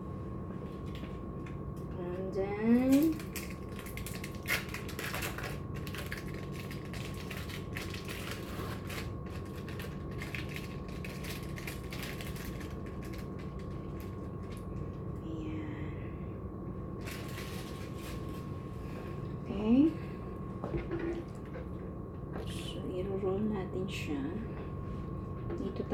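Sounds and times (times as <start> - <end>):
faint electrical hum: 0.0 - 25.9.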